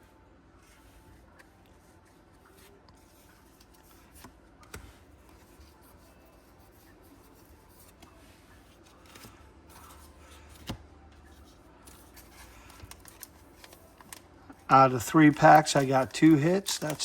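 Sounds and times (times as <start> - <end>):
trading cards rustling and sliding: 0.6 - 17.0.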